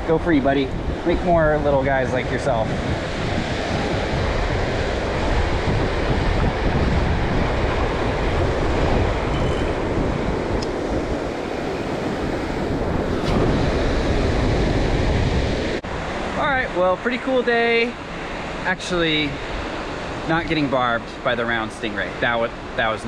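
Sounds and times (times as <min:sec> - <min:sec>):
ocean surf breaking: 0:00.0 - 0:23.0
wind rumbling on microphone: 0:00.0 - 0:23.0.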